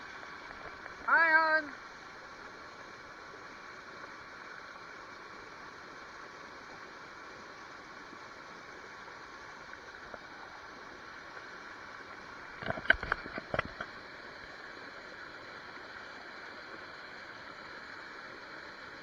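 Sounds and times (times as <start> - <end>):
river running over rocks: 0.0 - 19.0.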